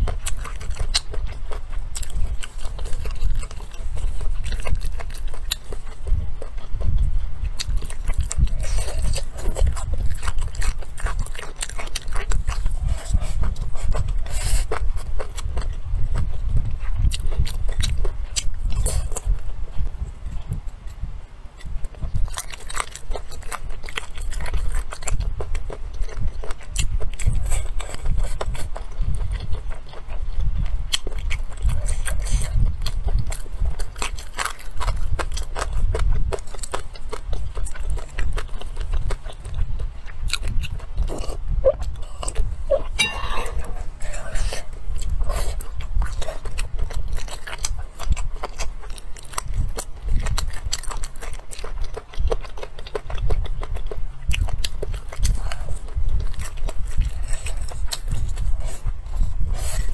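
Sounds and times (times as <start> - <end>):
chewing and biting food: 0.0 - 59.9.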